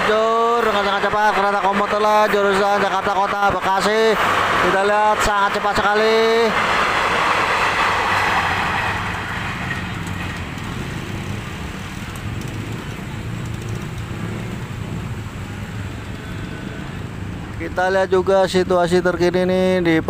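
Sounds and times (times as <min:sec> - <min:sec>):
electric train passing: 0:00.0 - 0:18.2.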